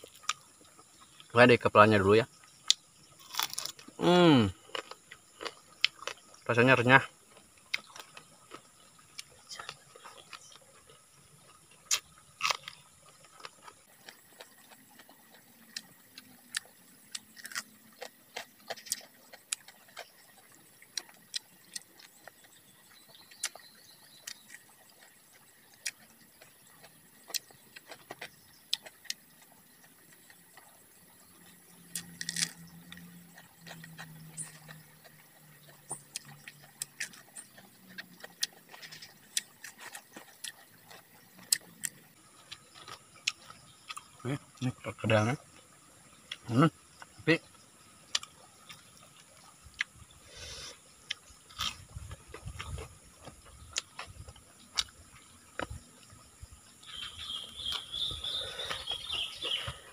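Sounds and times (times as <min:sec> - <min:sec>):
crunching fried food: 0:00.0 - 0:59.9.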